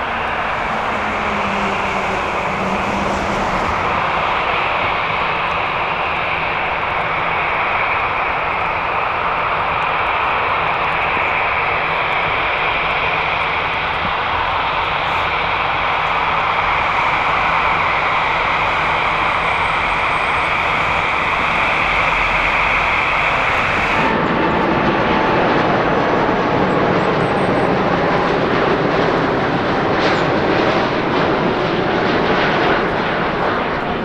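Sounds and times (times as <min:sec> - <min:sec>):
jet airliner engines running: 0:00.0 - 0:34.0.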